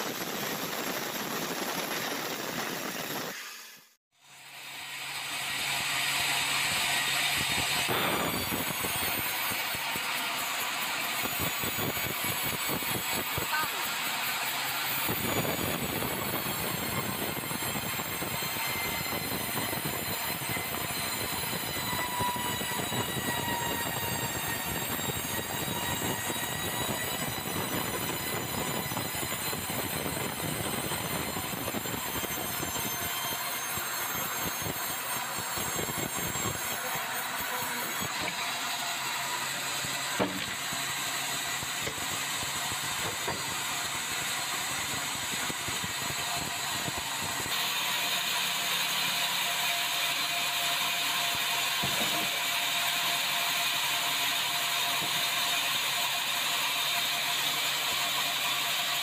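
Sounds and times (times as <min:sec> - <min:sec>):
bandsaw cutting log: 0:04.4 - 0:59.0.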